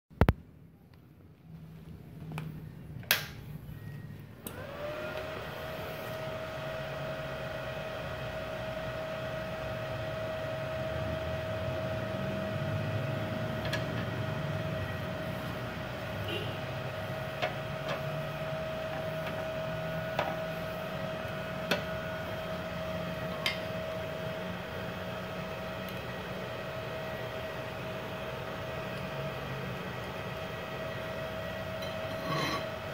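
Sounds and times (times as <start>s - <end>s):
welding machine fan whine: 1.8s - 32.9s.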